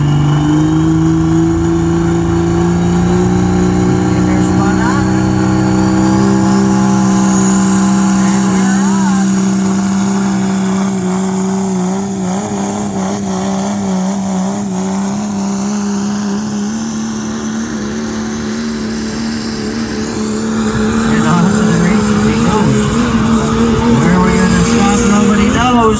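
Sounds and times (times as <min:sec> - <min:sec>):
engine at high revs: 0:00.0 - 0:25.9.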